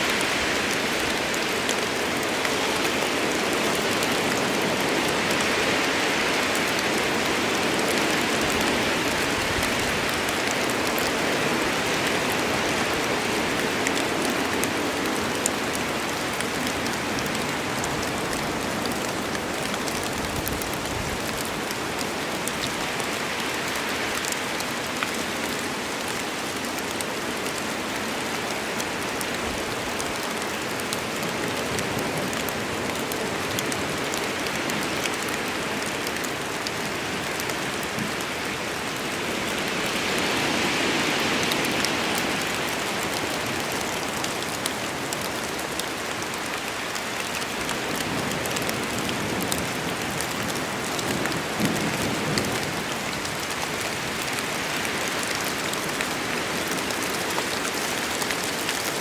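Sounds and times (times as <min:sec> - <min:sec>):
heavy rain in a forest: 0:00.0 - 0:59.0.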